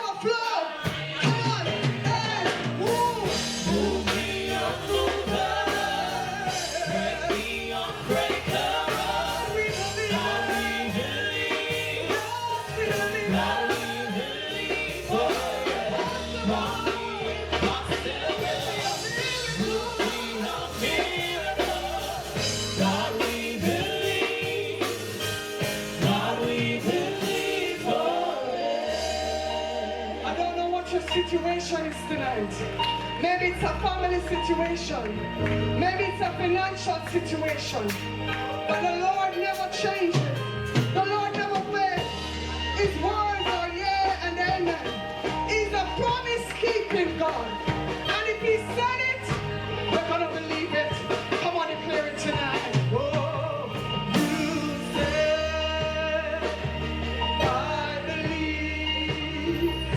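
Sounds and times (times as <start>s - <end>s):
band with bass and drums: 0.0s - 59.9s
group singing gospel: 0.0s - 59.9s.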